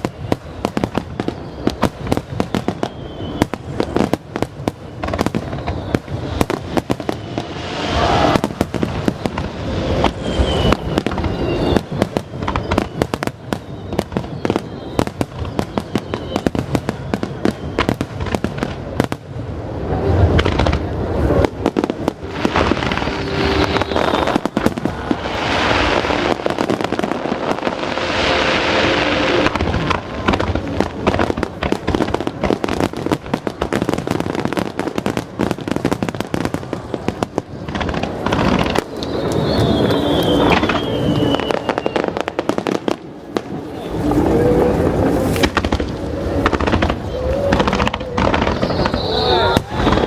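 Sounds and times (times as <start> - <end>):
firework bangs: 0.0 - 50.0
fireworks crackling: 0.0 - 50.0.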